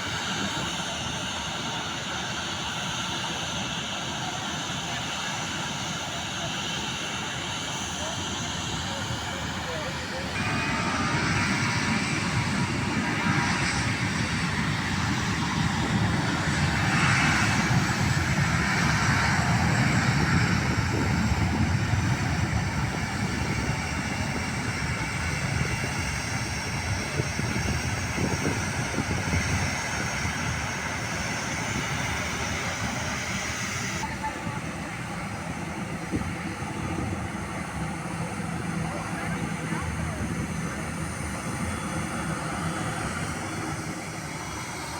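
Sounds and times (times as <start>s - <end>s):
jet engines rushing: 0.0s - 44.9s.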